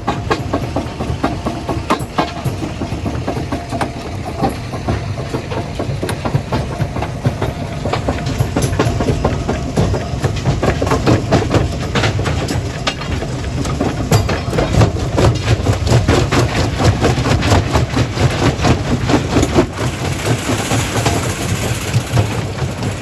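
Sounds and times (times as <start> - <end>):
machinery drone: 0.0 - 23.0.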